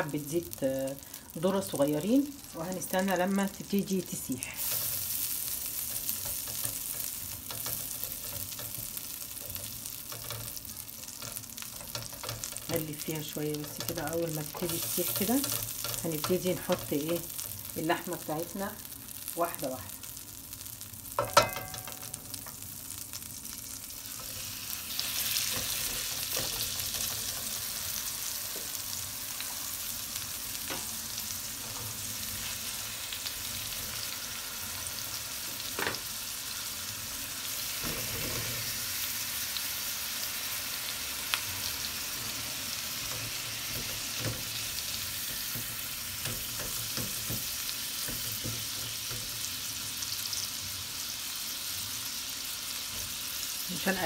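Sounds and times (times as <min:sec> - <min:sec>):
beef sizzling in frying pan: 0:00.0 - 0:54.0.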